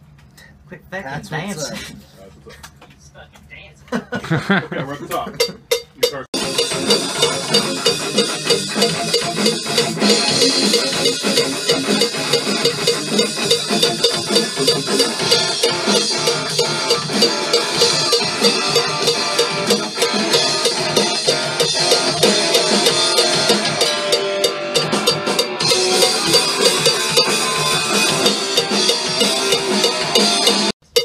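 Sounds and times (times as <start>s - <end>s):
drum kit rock beat: 4.3s - 31.0s
pitched instruments: 5.1s - 31.0s.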